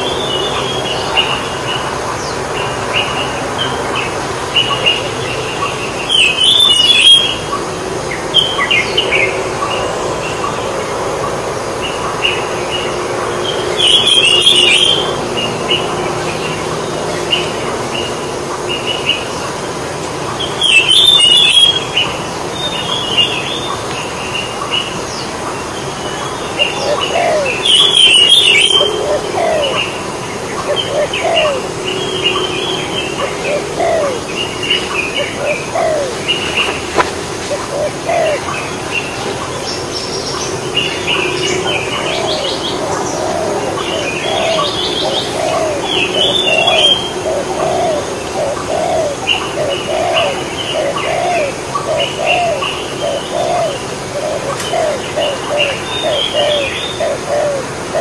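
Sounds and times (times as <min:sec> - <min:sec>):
small birds chirping: 0:00.0 - 0:58.0
steady background noise: 0:00.0 - 0:58.0.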